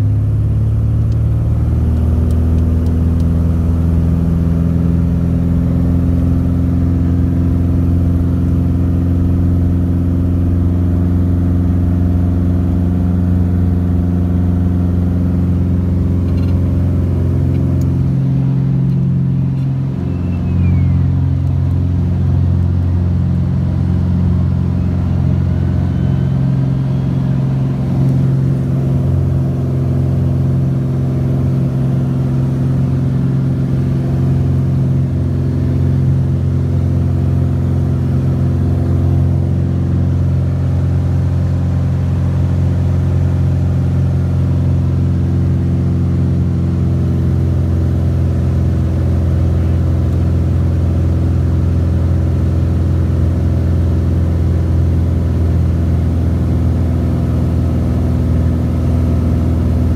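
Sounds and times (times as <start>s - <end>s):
light plane engine and propeller: 0.0s - 59.9s.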